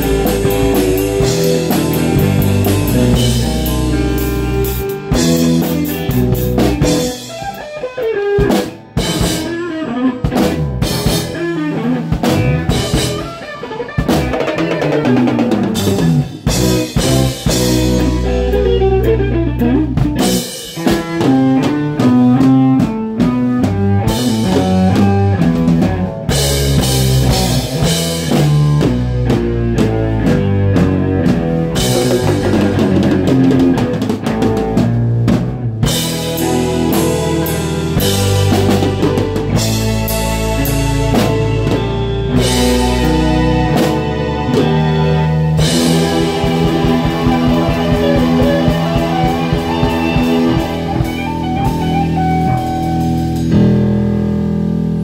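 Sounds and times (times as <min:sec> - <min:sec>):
drum kit hits: 0:00.0 - 0:07.6, 0:08.4 - 0:09.6, 0:10.2 - 0:53.8
live rock band playing: 0:00.0 - 0:55.0.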